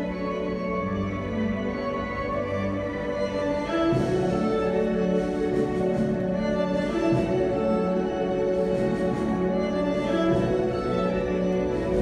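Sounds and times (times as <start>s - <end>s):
orchestral strings holding long notes: 0.0s - 12.0s.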